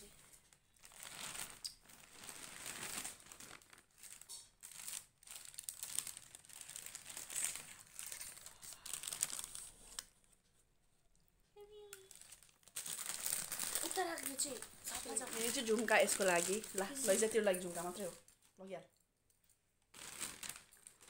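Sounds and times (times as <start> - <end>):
paper and foil wrapping crinkling: 0.0 - 10.4, 11.7 - 18.5, 19.4 - 21.0.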